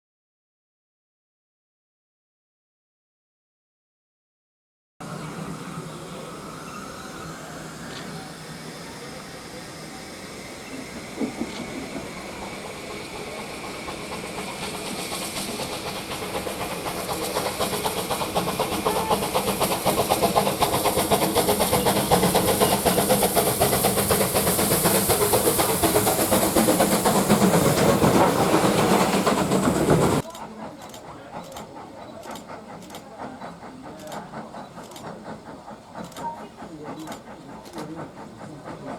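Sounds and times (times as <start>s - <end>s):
steam hissing: 5.0s - 38.9s
steam locomotive approaching: 5.0s - 38.9s
wheels clattering on rails: 5.2s - 38.9s.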